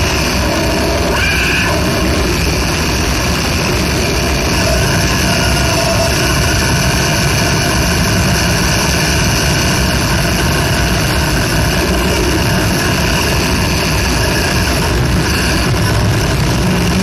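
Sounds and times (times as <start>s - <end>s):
rumbling drone music: 0.0s - 17.0s.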